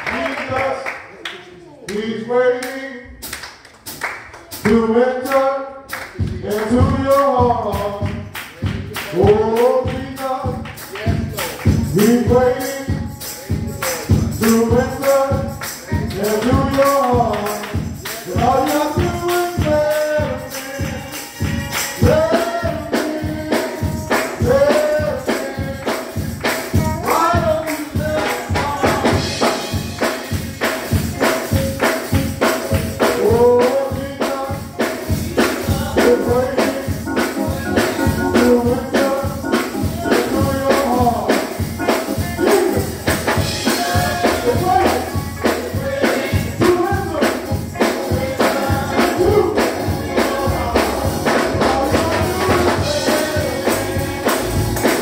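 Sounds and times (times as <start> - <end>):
voices singing gospel: 1.9 - 3.3, 3.9 - 55.0
tambourine beat: 3.2 - 55.0.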